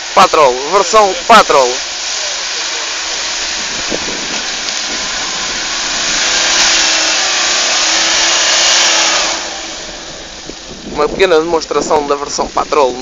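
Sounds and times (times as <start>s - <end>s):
engine working under load: 0.0s - 13.0s
steady hiss: 0.0s - 13.0s.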